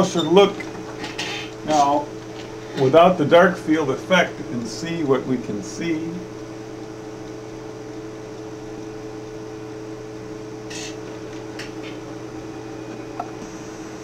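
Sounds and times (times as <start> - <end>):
electrical hum with fan noise: 0.0 - 14.0.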